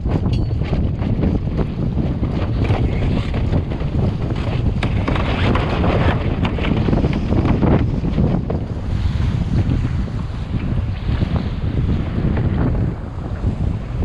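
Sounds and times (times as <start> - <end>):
waves slapping boat hull: 0.0 - 14.0
wind buffeting microphone: 0.0 - 14.0.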